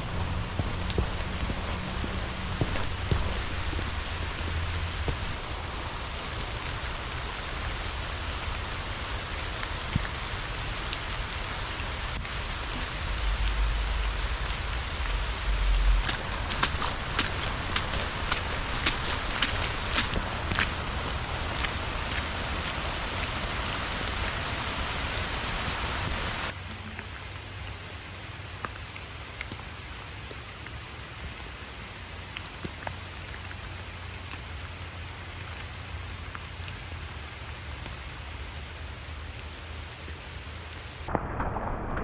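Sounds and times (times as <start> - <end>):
raindrops tapping close by: 0.0 - 42.0
steady rain falling: 0.0 - 42.0.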